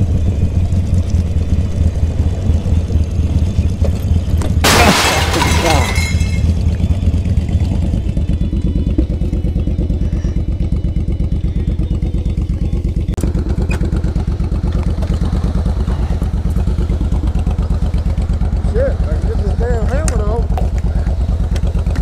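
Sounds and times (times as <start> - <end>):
motorcycle engine idling: 0.0 - 4.7, 6.2 - 22.0.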